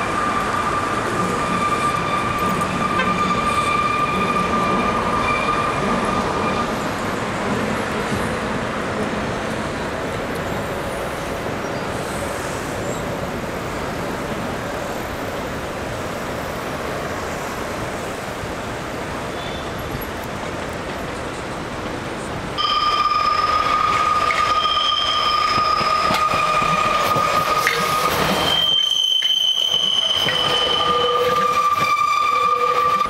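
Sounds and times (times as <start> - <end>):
train rolling over steel viaduct: 0.0 - 33.0.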